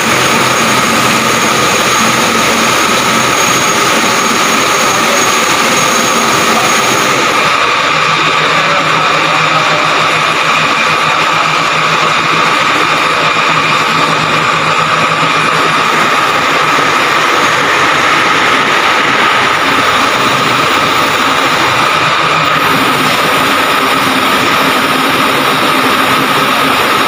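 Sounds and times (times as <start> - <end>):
machinery whine: 0.0 - 27.0.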